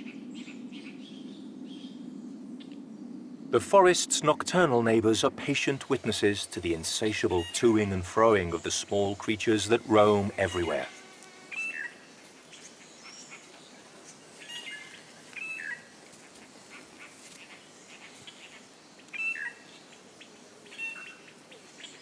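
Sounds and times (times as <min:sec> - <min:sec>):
faint background ambience: 0:00.0 - 0:22.0.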